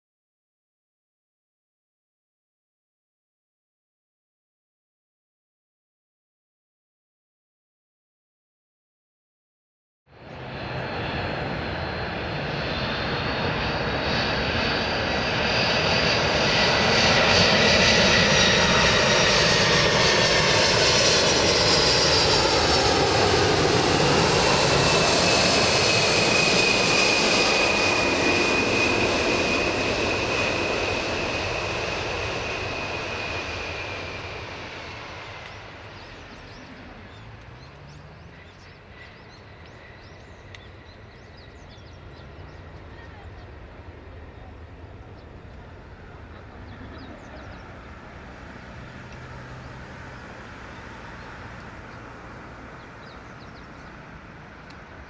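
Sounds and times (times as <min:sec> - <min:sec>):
jet aircraft passing overhead: 0:10.1 - 0:55.0.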